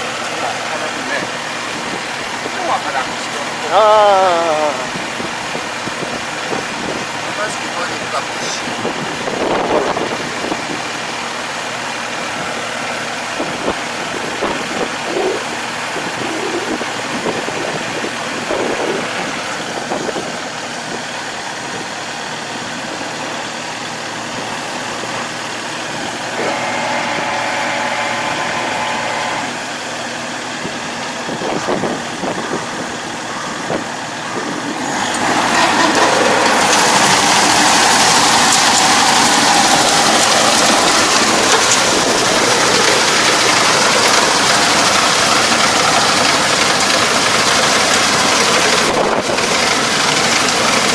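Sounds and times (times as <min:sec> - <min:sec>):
farm machine engine running: 0:00.0 - 0:50.9.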